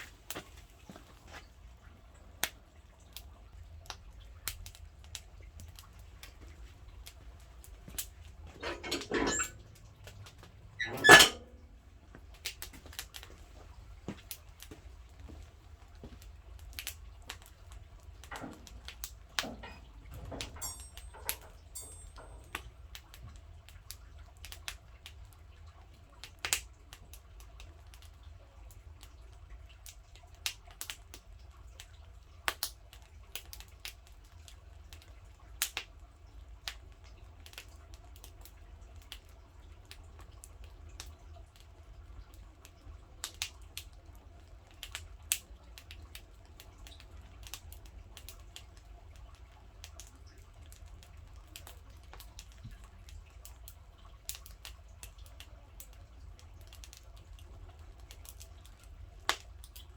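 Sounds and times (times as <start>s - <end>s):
firewood crackling in a stove: 0.0s - 59.9s.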